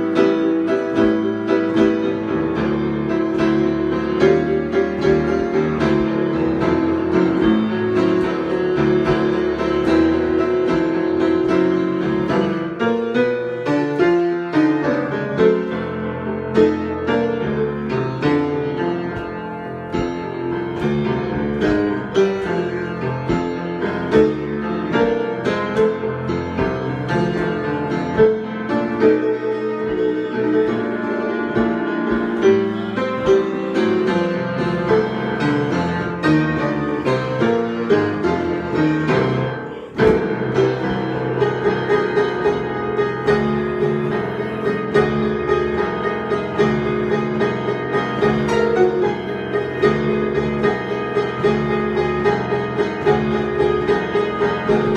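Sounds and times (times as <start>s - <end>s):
solo piano improvisation: 0.0s - 54.9s.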